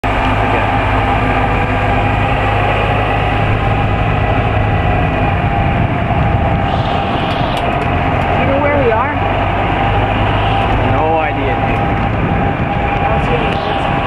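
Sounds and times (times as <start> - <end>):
golf cart motor humming: 0.0 - 14.0
road and wind noise: 0.0 - 14.0.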